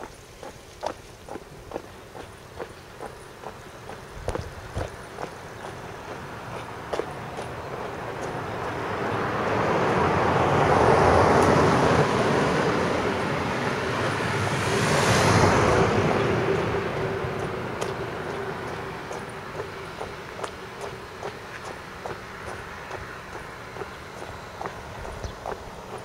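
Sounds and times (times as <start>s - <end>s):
motor vehicle passing: 0.0s - 26.0s.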